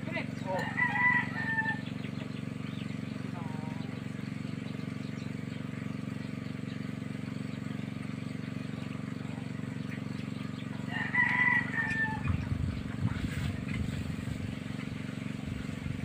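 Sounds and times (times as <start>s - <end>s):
gasoline water pump running: 0.0s - 16.0s.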